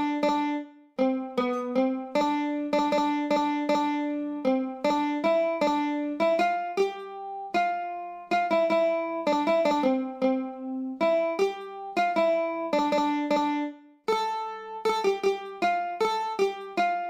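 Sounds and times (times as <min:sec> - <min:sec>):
mandolin picking a melody: 0:00.0 - 0:17.0.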